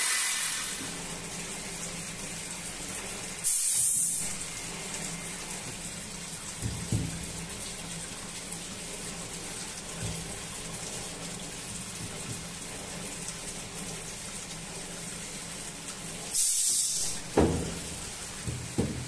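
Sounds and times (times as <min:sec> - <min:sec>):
cooling water hissing: 0:00.0 - 0:19.0.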